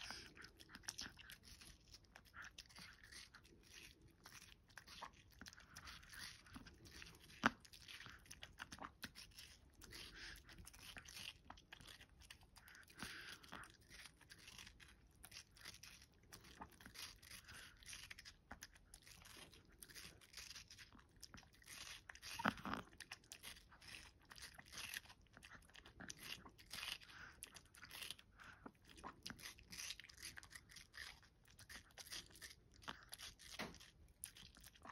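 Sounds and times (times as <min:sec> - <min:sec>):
dog chewing watermelon: 0:00.0 - 0:34.9.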